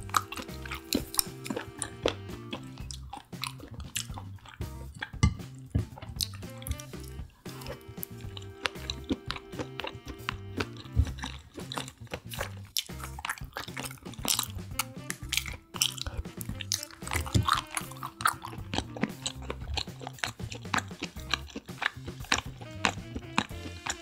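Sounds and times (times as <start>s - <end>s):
background music: 0.0s - 24.0s
crunchy chewing of seafood: 0.0s - 24.0s.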